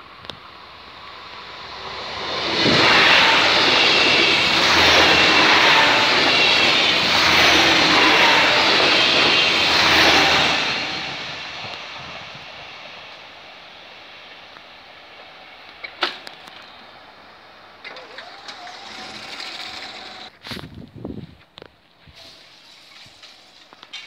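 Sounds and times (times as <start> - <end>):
passenger train passing at speed: 0.0 - 20.4.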